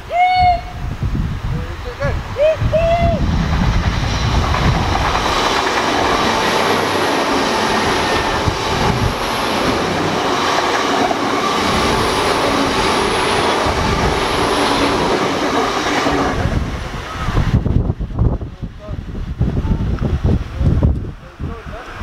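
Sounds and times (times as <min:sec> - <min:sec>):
train passing at speed: 0:01.1 - 0:22.0.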